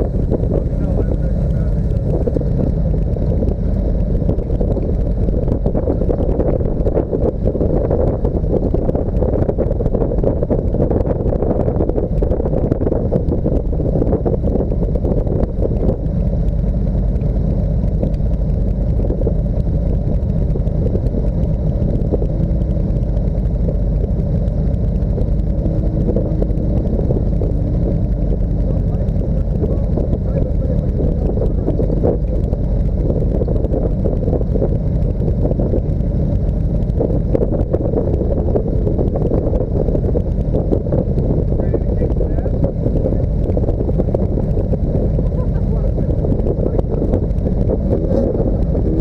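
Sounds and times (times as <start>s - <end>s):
motor vehicle engine rumble: 0.0s - 49.0s.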